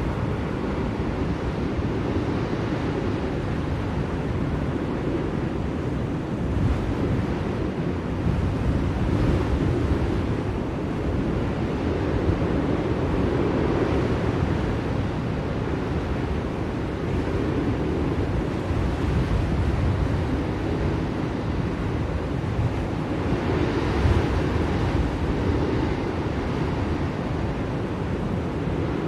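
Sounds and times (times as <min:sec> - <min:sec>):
blizzard wind blowing: 0:00.0 - 0:29.0.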